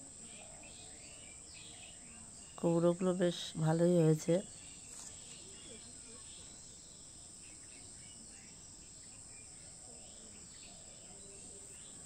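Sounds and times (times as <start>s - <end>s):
faint bird chirps: 0.0s - 12.0s
high-pitched insect chorus: 0.0s - 12.0s.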